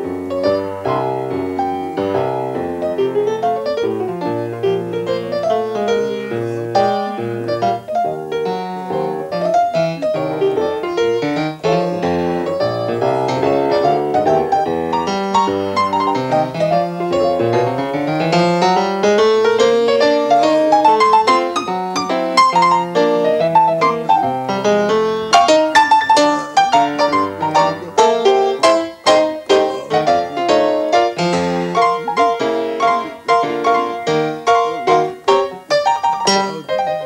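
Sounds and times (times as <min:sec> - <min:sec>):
solo jazz piano: 0:00.0 - 0:37.0.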